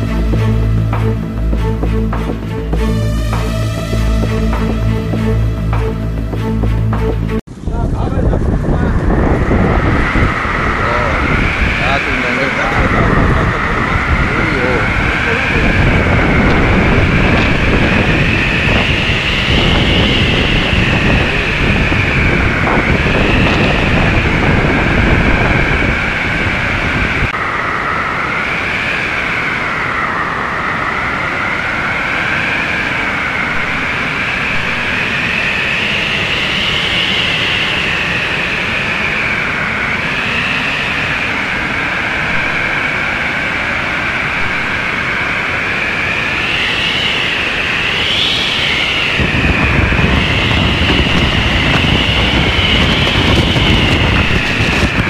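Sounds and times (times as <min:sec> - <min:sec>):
wind buffeting microphone: 0:00.0 - 0:55.0
wind rushing roar: 0:00.0 - 0:55.0
wind whistling: 0:00.0 - 0:55.0.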